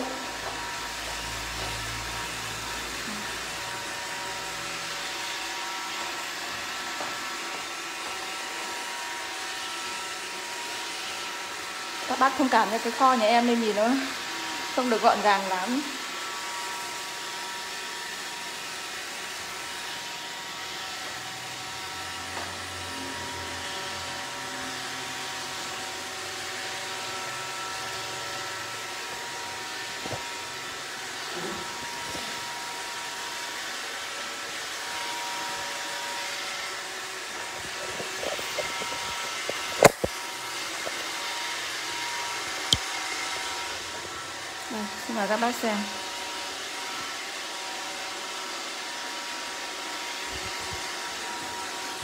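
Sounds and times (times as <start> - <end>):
robot vacuum whirring and whining: 0.0 - 52.0.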